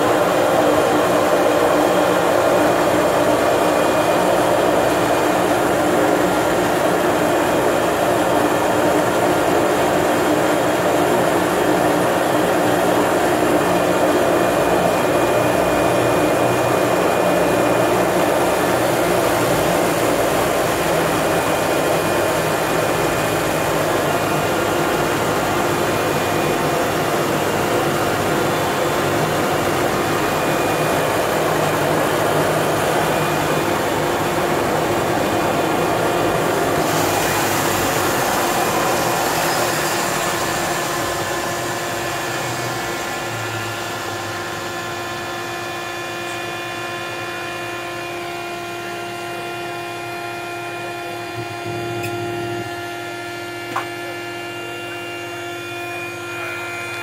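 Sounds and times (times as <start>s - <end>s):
turboprop engine running: 0.0s - 57.0s.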